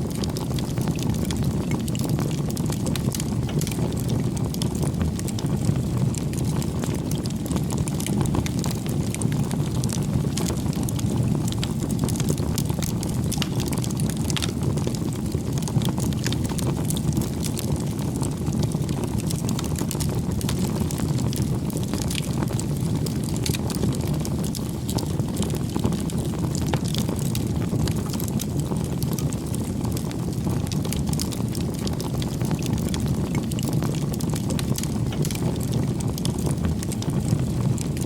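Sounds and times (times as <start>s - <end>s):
bonfire crackling and popping: 0.0s - 38.0s.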